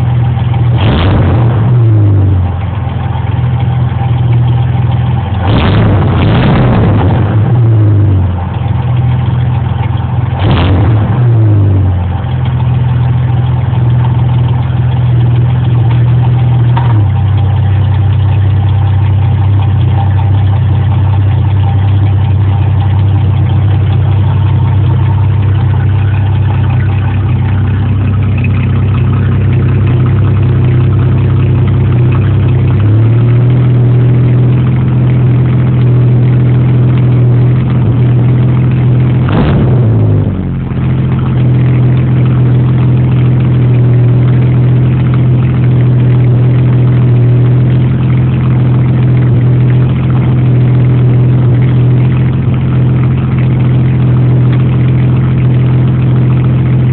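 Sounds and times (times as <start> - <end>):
car engine idling: 0.0 - 56.9
engine throttle blip: 0.0 - 56.9.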